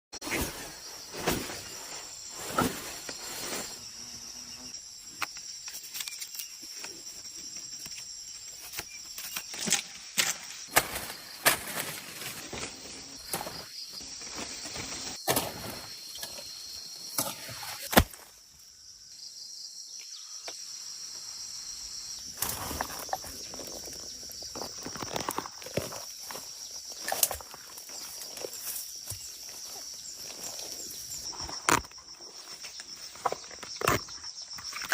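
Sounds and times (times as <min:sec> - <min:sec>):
insects chirring: 0:00.2 - 0:34.9.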